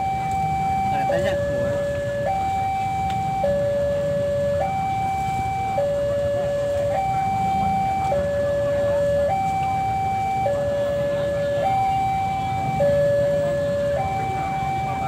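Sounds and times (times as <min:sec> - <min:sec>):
level crossing two-tone alarm: 0:00.0 - 0:15.0
low traffic rumble: 0:00.0 - 0:15.0.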